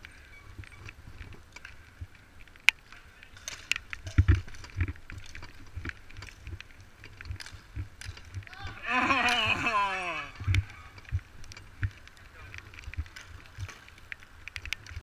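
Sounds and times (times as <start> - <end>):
bicycles and mallets rattling: 0.0 - 15.0.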